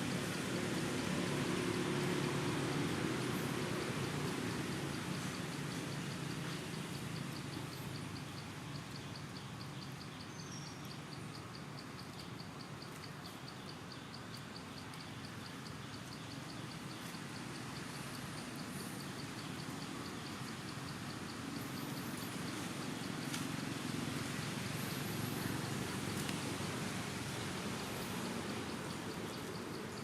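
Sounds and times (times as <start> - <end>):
background noise hiss: 0.0 - 30.0
insect chirping: 0.0 - 30.0.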